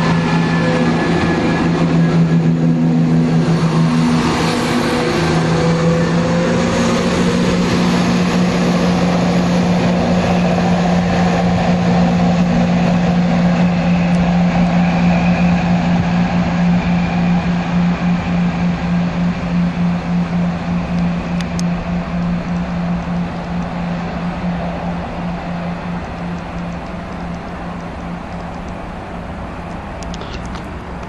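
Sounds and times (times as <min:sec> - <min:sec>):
train humming and rumbling: 0:00.0 - 0:31.0.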